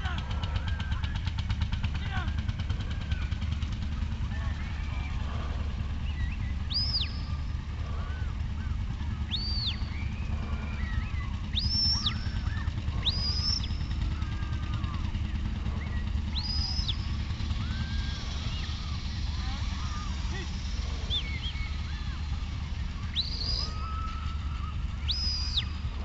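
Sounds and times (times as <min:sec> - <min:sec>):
steady low hum: 0:00.0 - 0:26.0
short high whistles: 0:04.3 - 0:26.0.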